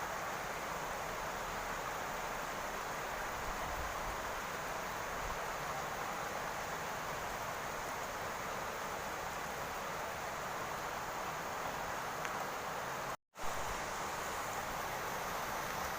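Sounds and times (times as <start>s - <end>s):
rain falling on a roof: 0.0s - 15.9s.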